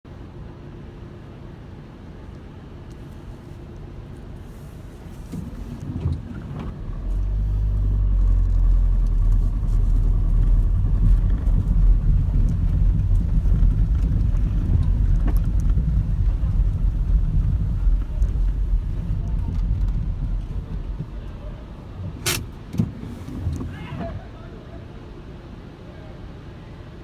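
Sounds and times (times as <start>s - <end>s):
vehicle engine rumble: 0.1s - 27.0s.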